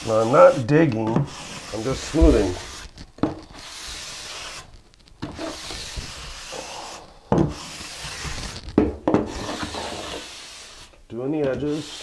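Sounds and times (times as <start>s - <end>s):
trowel scraping mortar: 0.0s - 12.0s.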